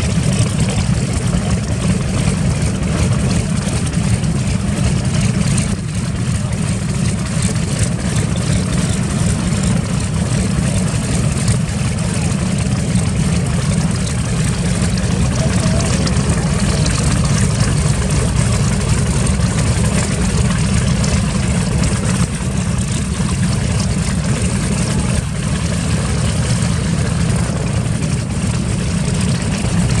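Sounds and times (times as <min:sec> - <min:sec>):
radial aircraft engines droning: 0:00.0 - 0:30.0.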